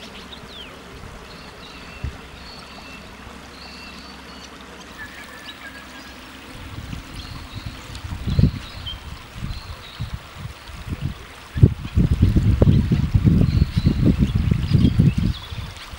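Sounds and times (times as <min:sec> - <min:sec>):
floodwater running over road: 0:00.0 - 0:15.9.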